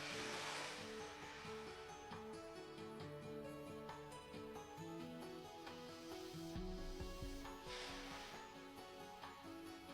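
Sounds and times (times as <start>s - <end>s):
quiet slow background music: 0.0s - 9.9s.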